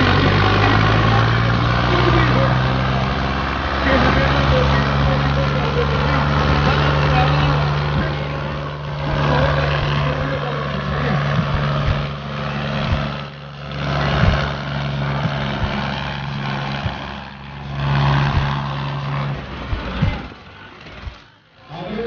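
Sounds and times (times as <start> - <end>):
toy electric motors humming: 0.0 - 22.0.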